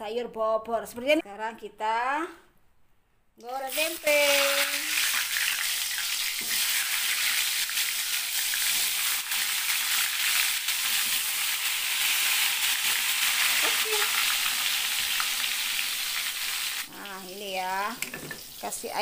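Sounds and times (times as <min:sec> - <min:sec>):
food deep-frying in hot oil: 0:03.7 - 0:19.0.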